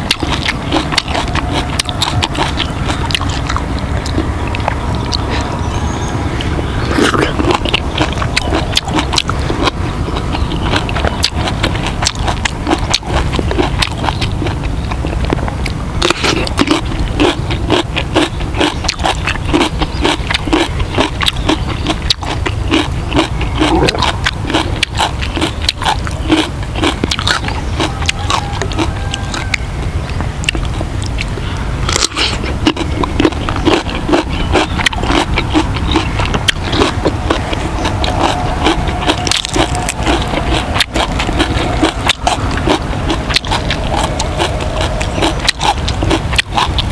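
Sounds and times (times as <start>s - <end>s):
low rumble: 0.0s - 46.9s
man chewing food: 0.0s - 46.9s.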